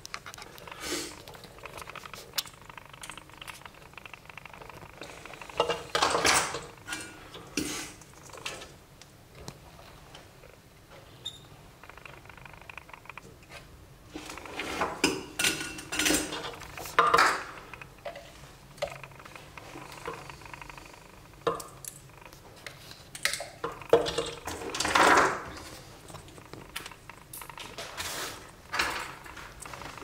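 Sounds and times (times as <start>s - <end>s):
clicks and rattles of hand work: 0.0s - 10.3s, 11.8s - 30.0s.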